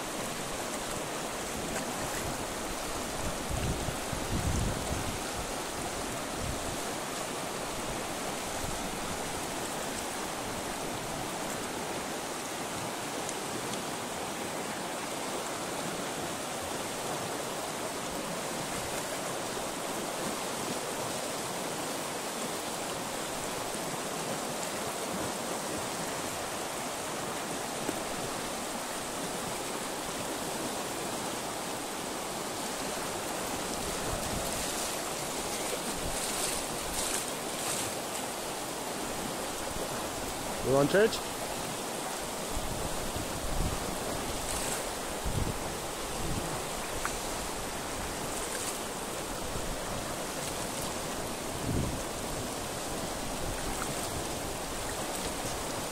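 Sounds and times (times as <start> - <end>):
river rushing: 0.0 - 55.9.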